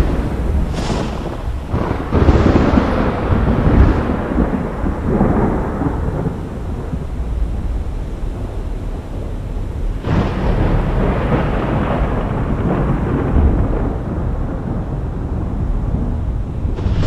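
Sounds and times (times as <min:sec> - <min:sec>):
storm background noise: 0:00.0 - 0:17.0
thunder rolling: 0:00.0 - 0:17.0.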